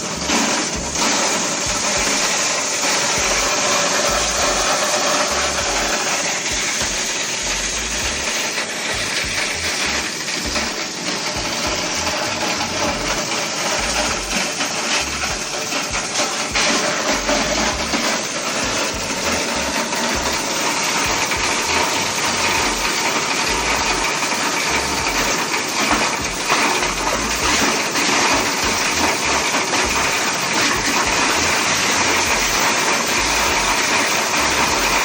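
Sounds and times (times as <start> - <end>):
shredder grinding: 0.0 - 35.0.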